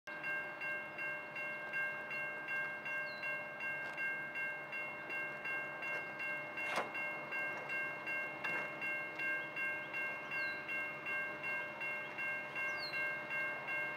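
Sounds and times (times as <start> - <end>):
level crossing bells ringing: 0.1 - 13.9.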